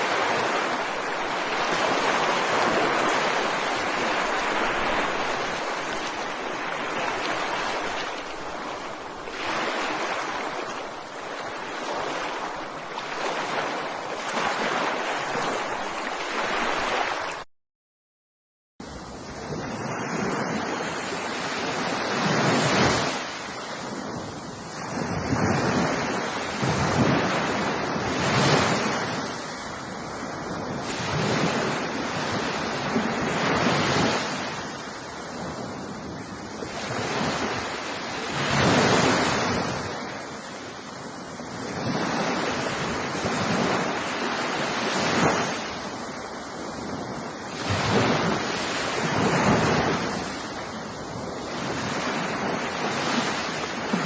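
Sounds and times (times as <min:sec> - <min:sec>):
waves breaking: 0:00.0 - 0:17.4, 0:18.8 - 0:54.0.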